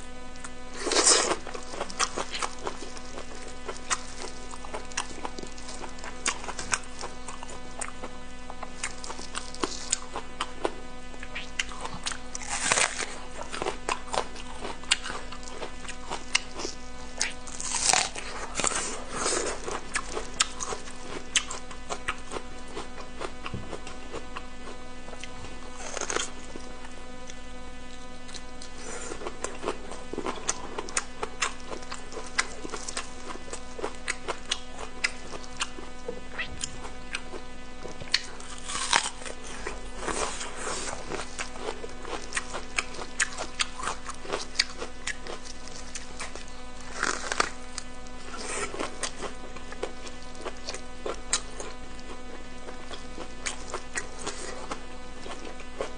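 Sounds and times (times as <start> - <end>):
wet chewing and crunching: 0.4 - 55.9.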